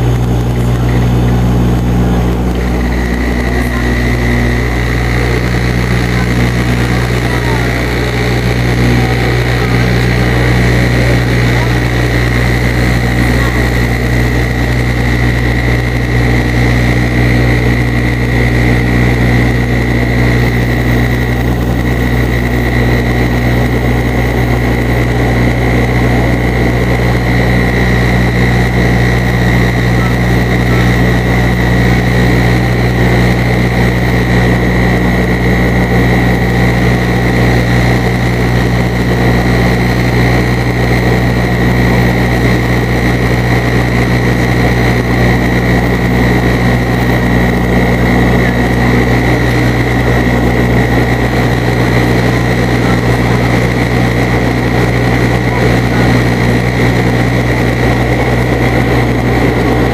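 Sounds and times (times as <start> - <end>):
aircraft engines humming: 0.0 - 59.9
engine high whine: 0.0 - 59.9.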